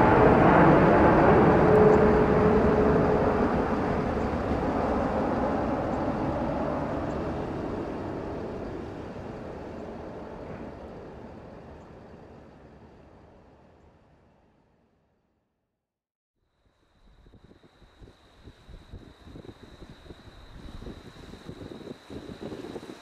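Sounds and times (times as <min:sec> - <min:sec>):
jet airliner engine rush: 0:00.0 - 0:13.7, 0:17.1 - 0:23.0.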